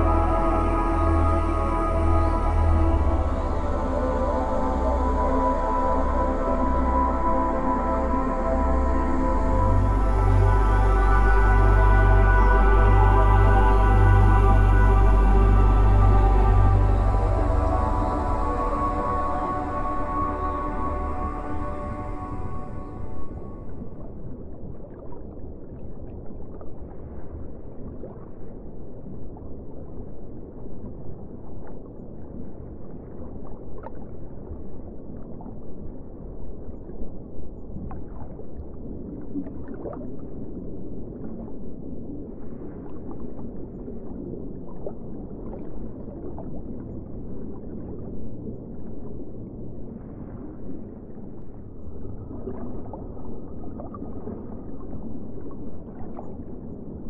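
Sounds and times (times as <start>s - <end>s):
low underwater rumble: 0.0s - 57.0s.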